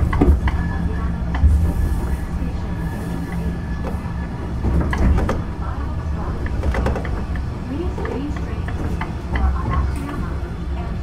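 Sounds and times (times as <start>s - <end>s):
tram low rumble: 0.0s - 11.0s.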